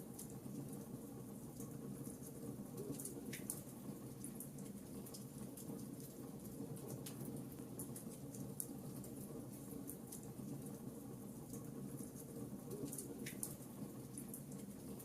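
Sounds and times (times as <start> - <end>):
low rumble of burning fire: 0.0 - 15.0.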